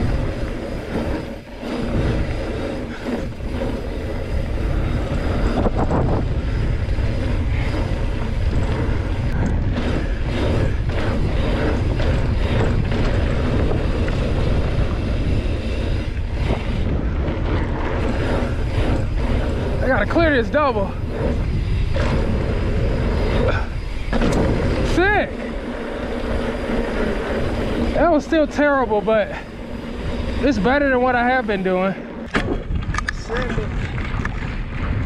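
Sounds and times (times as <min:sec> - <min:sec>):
bike knocks and rattles: 0:00.0 - 0:35.0
knobby tyres rushing on dirt: 0:00.0 - 0:35.0
wind buffeting microphone: 0:00.0 - 0:35.0.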